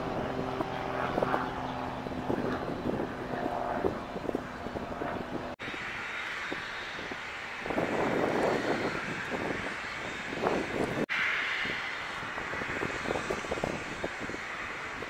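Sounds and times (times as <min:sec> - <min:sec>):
jet engines taxiing: 0:00.0 - 0:15.0
jet landing approach noise: 0:00.0 - 0:15.0.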